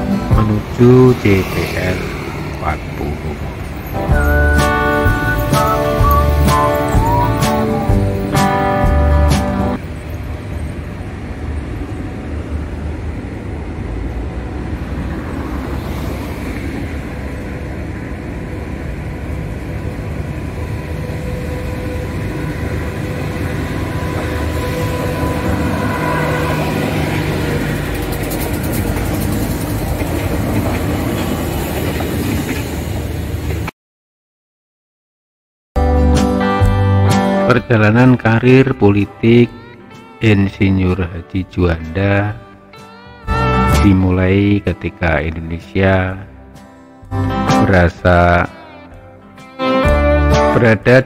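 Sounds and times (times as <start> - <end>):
passenger train rumbling past: 0.0 - 33.7, 36.4 - 51.0.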